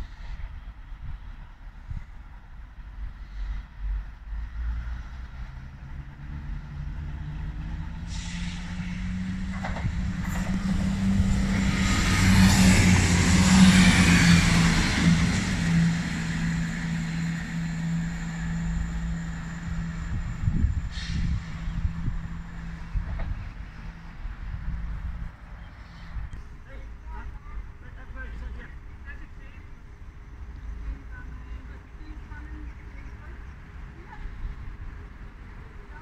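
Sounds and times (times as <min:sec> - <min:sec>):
diesel train engine drone: 0:00.0 - 0:36.0
wheel and rail noise: 0:01.7 - 0:36.0.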